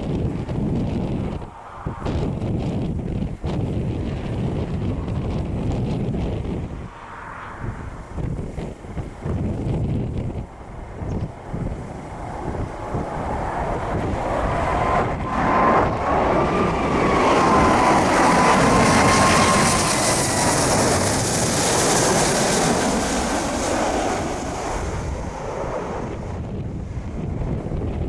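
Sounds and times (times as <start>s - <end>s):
jet airliner passing: 0.0s - 28.0s
wind buffeting microphone: 0.0s - 28.0s.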